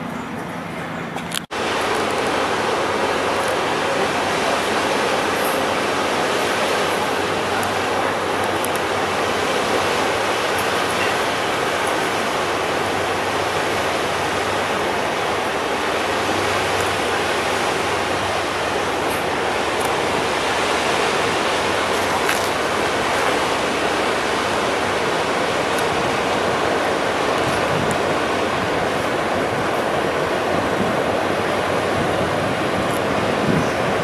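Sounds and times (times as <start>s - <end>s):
river water rushing: 0.0s - 34.0s
wash of a passing boat: 0.0s - 34.0s.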